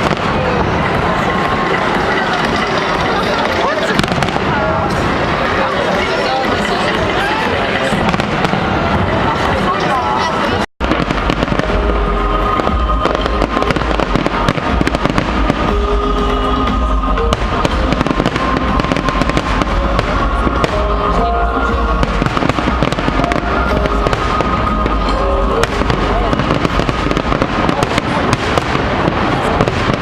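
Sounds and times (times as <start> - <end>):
fireworks bangs and crackles: 0.0 - 30.0
music playing: 0.0 - 30.0.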